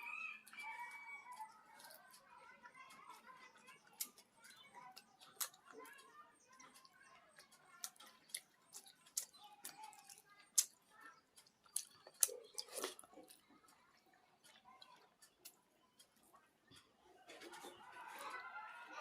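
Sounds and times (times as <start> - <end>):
chewing and mouth clicks: 0.3 - 17.8.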